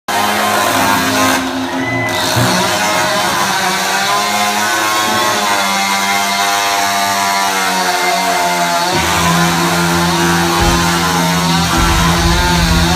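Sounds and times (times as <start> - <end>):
chainsaw revving: 0.1 - 12.9.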